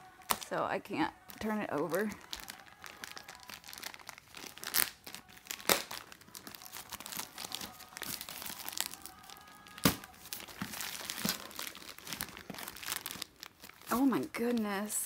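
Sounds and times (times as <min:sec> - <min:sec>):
sharp plastic crackles: 0:01.2 - 0:15.0
plastic mailer bag tearing: 0:01.3 - 0:14.8.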